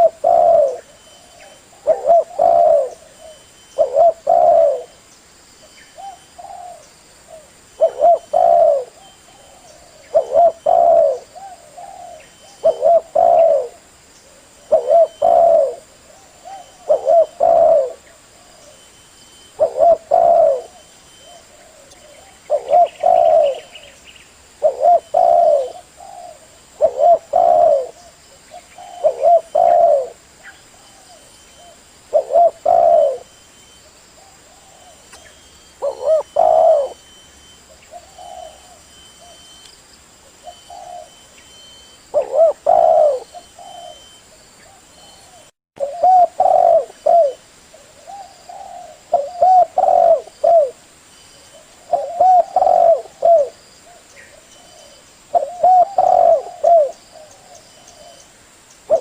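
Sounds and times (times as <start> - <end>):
dove cooing: 0.0 - 5.0, 6.0 - 39.6, 40.4 - 50.8, 51.5 - 58.2.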